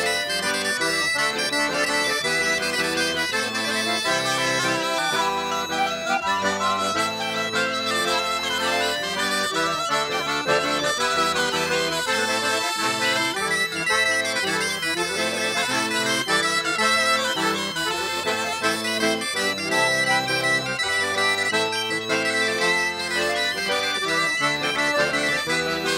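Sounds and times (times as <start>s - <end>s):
accordion: 0.0s - 25.9s
folk dance music on reeds: 0.0s - 25.9s.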